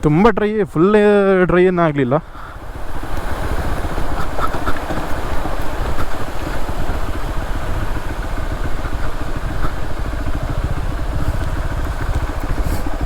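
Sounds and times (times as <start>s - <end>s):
motorcycle engine running: 2.3s - 13.0s.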